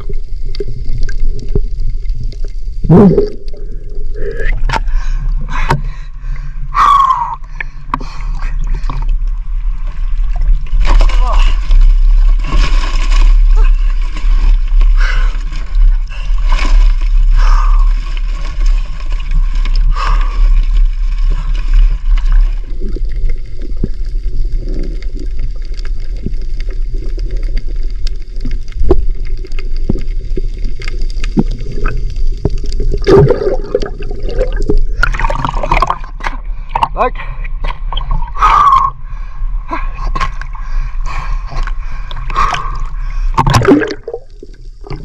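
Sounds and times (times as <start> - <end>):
muffled underwater gurgling: 0.0 - 45.0
water sloshing and splashing: 7.4 - 45.0.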